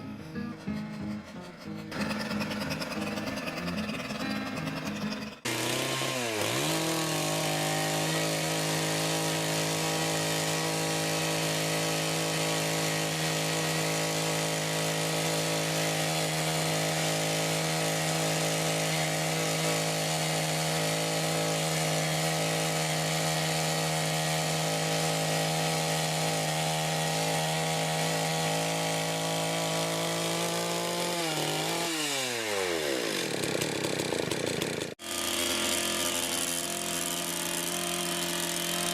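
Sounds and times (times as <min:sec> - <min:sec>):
power tool engine revving: 0:00.6 - 0:38.9.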